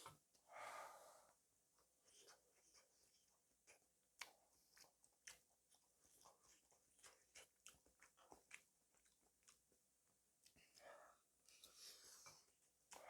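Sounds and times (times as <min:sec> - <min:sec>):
person chewing food: 0:01.8 - 0:10.8, 0:11.4 - 0:13.0.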